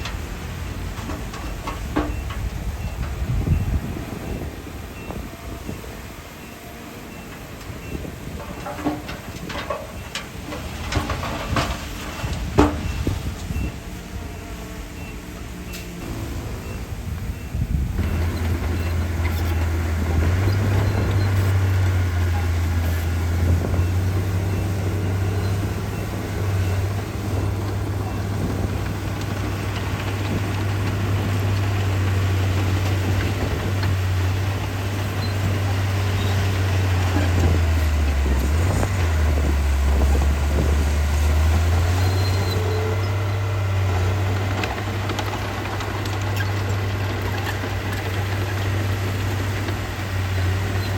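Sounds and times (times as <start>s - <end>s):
heavy diesel engine droning: 0.0s - 50.9s.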